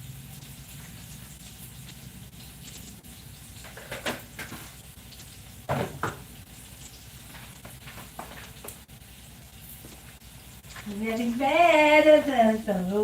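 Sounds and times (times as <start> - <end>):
light sizzling: 0.0 - 13.0.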